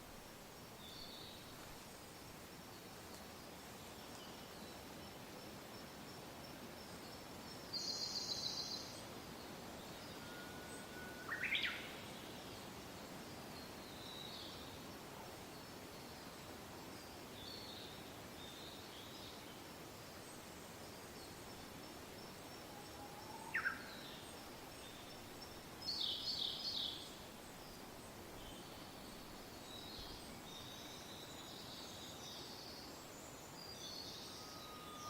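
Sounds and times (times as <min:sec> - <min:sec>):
soft steady wind: 0:00.0 - 0:35.0.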